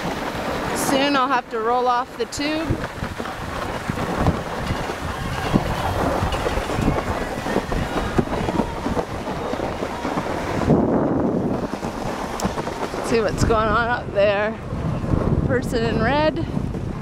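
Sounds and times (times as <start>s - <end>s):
snow tube scraping over snow: 0.0s - 17.0s.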